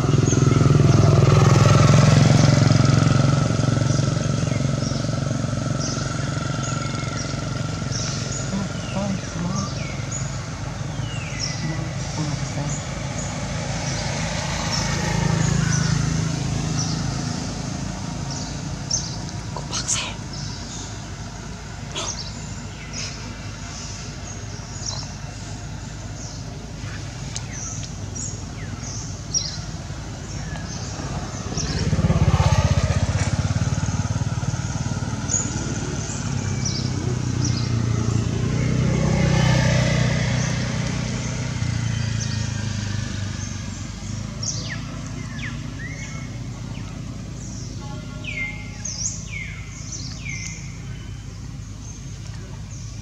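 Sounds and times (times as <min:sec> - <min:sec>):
motor vehicles passing: 0:00.0 - 0:53.0.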